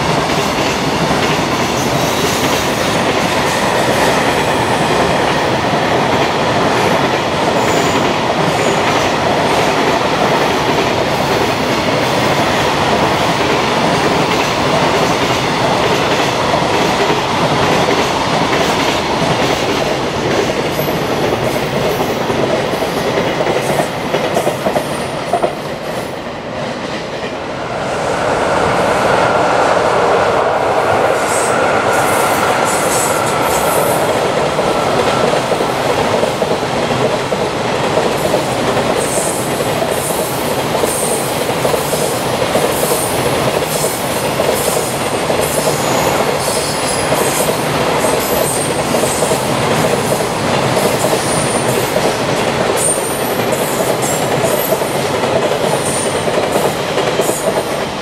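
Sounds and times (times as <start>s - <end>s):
clickety-clack over rail joints: 0.0s - 27.4s, 32.5s - 58.0s
freight train wheels rumbling: 0.0s - 58.0s.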